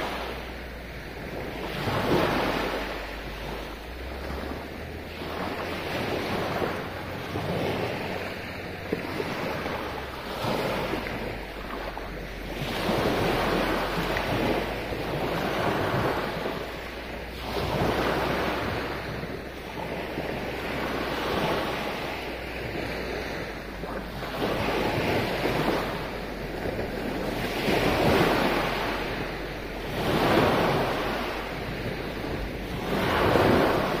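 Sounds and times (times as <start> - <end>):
small waves washing up beach: 0.0 - 34.0.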